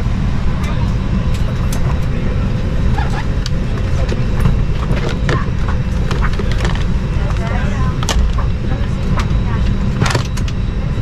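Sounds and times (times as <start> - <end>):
faint voices: 0.2 - 11.0.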